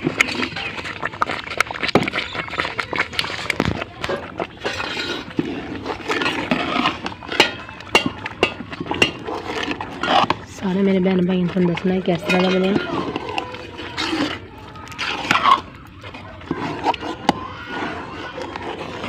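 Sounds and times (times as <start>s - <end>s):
spoon stirring thick porridge: 0.0s - 19.0s.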